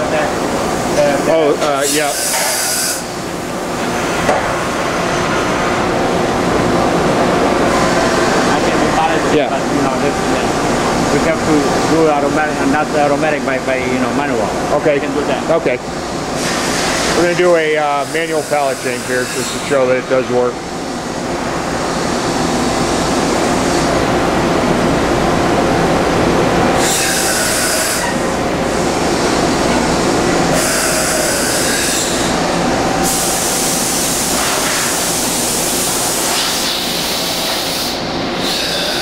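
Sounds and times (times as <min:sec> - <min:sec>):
machining center droning: 0:00.0 - 0:39.0.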